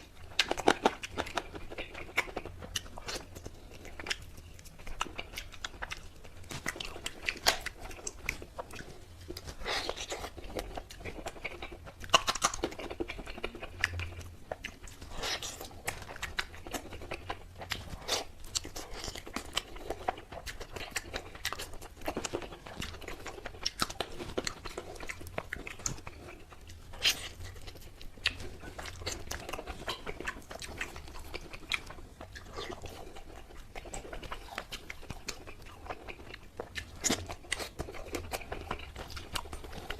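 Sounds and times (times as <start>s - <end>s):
chewing and wet mouth sounds: 0.0s - 39.9s.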